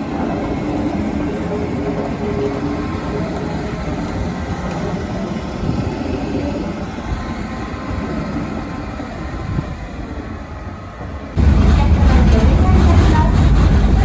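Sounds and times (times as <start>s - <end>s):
trolley train rumbling: 0.0s - 14.0s.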